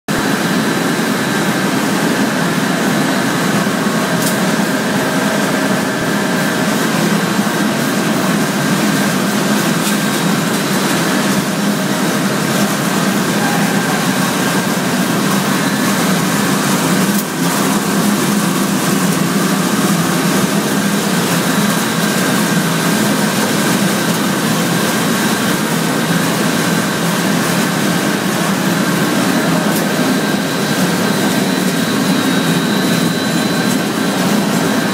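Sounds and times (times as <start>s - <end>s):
factory machinery din: 0.1s - 34.9s
high machine whines: 0.1s - 34.9s.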